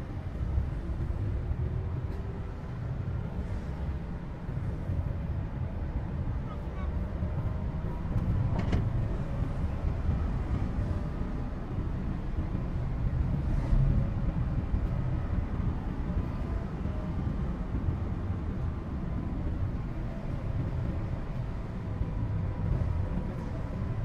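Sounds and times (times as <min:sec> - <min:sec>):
van cabin engine and road rumble: 0:00.0 - 0:24.0.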